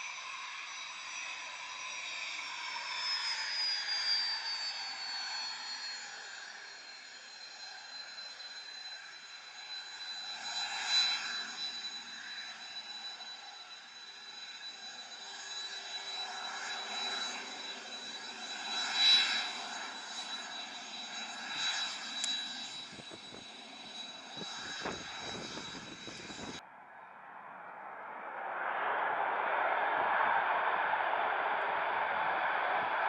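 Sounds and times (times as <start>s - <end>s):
jet engines whining: 0.0s - 26.6s.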